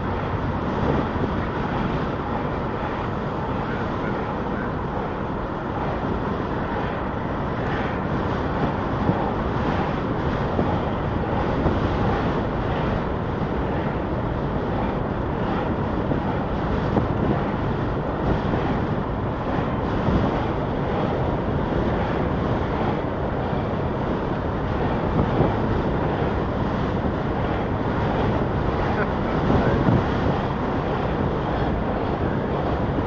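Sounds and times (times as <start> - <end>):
passing vehicles: 0.0 - 33.0
vehicle driving on road: 0.0 - 33.0
wind rush on microphone: 0.0 - 33.0.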